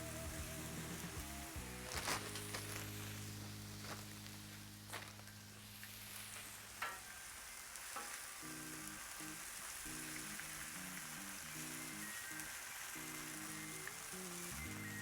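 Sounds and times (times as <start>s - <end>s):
cheese sizzling on a griddle: 0.0s - 15.0s
soft background music: 0.0s - 15.0s.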